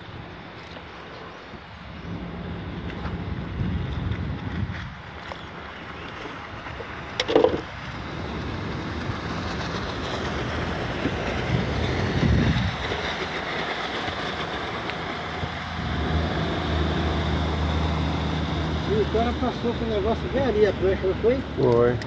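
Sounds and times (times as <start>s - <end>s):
water rushing around boat: 0.0s - 22.0s
wind: 0.0s - 22.0s.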